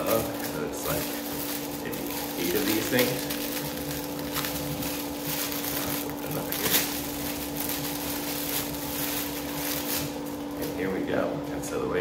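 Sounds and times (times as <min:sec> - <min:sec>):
plastic packaging crinkling: 0:00.0 - 0:10.9
steady low hum: 0:00.0 - 0:12.0.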